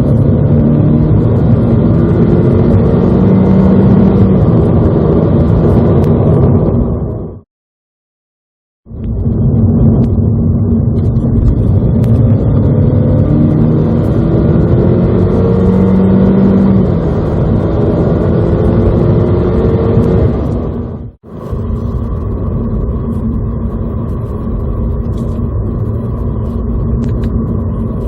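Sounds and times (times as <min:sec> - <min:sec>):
car engine accelerating: 0:00.0 - 0:07.3, 0:08.9 - 0:28.0.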